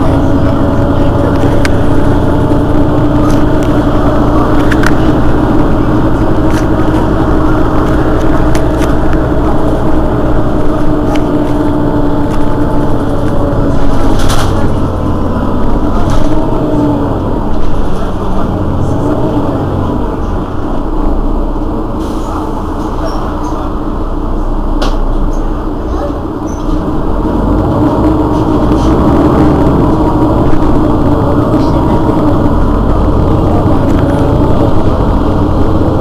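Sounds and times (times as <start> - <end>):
bus engine idling: 0.0 - 36.0.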